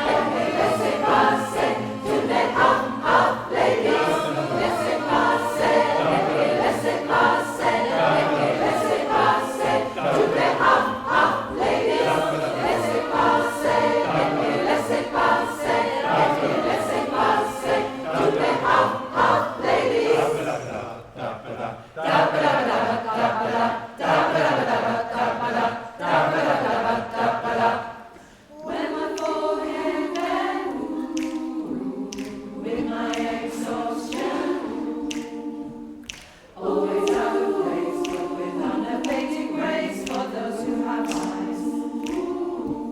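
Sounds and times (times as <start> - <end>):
choir singing in harmony: 0.0 - 42.9.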